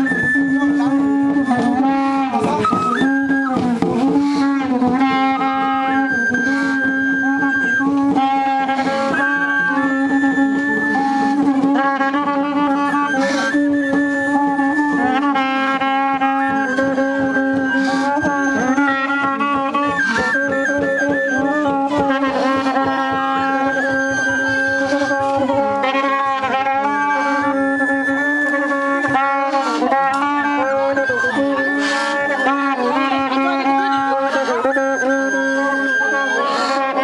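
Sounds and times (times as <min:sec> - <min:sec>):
horns and flutes playing: 0:00.0 - 0:37.0.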